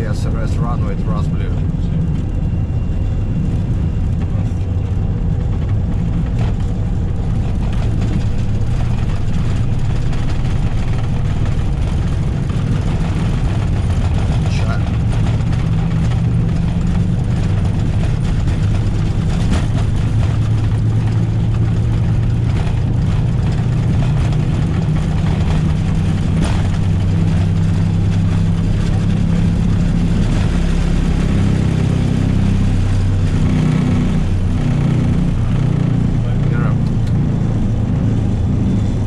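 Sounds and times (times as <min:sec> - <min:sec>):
jet engine and airflow rumble: 0:00.0 - 0:39.0.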